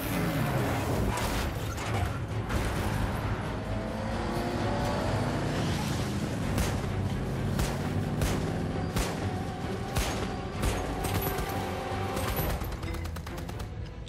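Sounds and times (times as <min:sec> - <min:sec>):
car engines rumbling: 0:00.0 - 0:11.4
dramatic music: 0:00.0 - 0:14.0.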